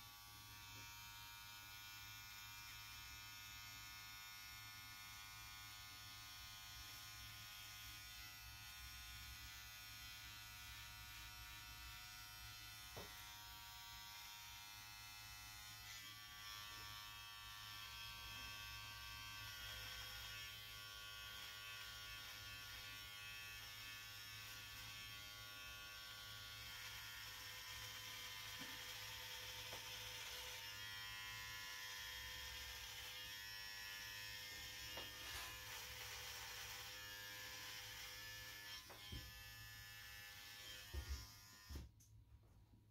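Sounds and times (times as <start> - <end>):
electric hair trimmer buzzing: 0.0 - 41.9.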